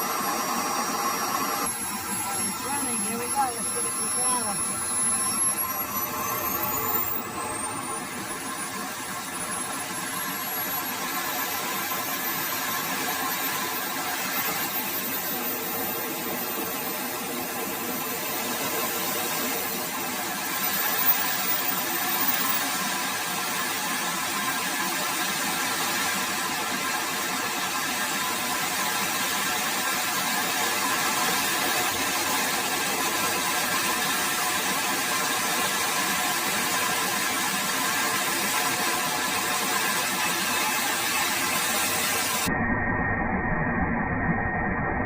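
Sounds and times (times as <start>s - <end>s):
turbojet engine whine: 0.0s - 45.0s.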